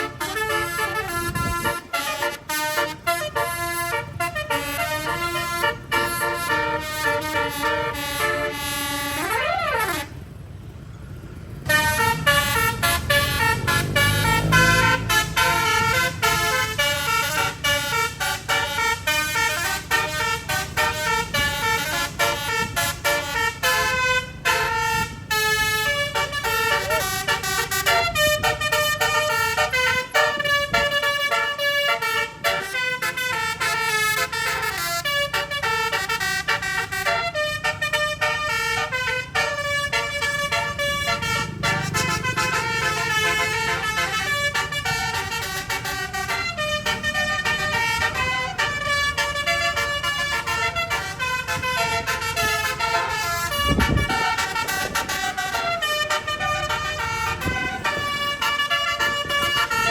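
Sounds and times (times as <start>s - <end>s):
bus melody horn: 0.0s - 10.7s, 11.6s - 59.9s
low engine rumble: 0.0s - 59.9s.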